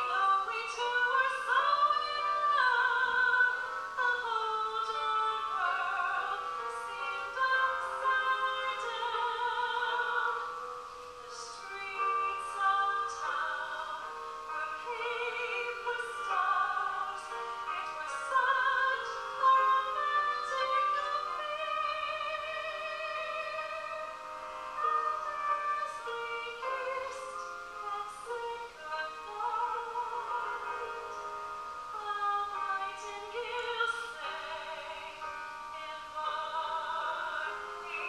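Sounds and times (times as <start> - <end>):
woman singing a slow ballad: 0.0 - 38.0.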